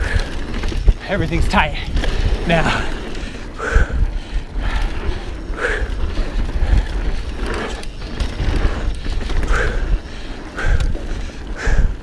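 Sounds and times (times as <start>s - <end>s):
rider breathing hard: 0.0s - 1.0s, 1.7s - 12.0s
bike tyres and drivetrain rattling: 0.0s - 12.0s
wind rumble on microphone: 0.0s - 12.0s.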